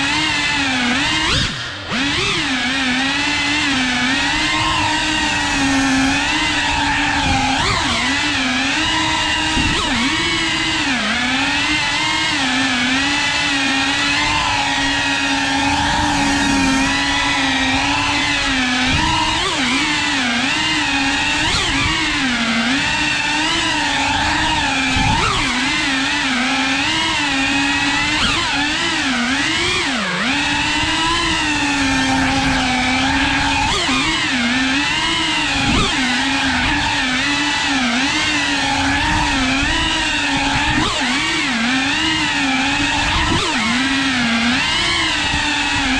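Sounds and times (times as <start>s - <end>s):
drone motors whining: 0.0s - 45.9s.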